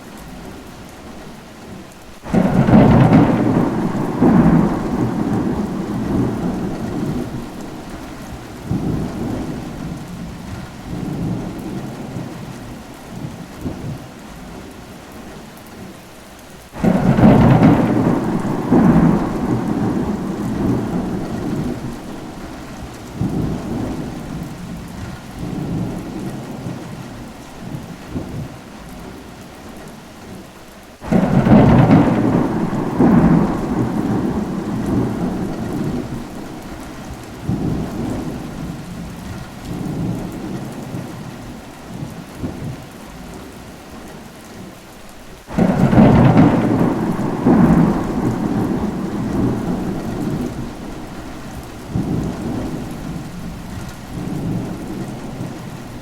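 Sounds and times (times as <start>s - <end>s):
steady rain: 0.0s - 56.0s
thunder clap and rumble: 2.3s - 14.6s, 16.8s - 29.2s, 31.0s - 43.5s, 45.5s - 56.0s.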